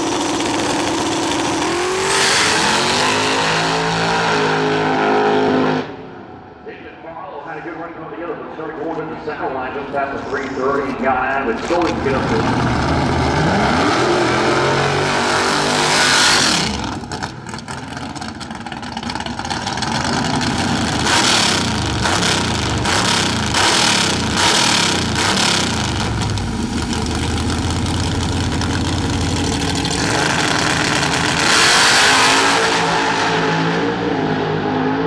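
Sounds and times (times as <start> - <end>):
racing car engine revving: 0.0 - 6.3, 11.4 - 35.0.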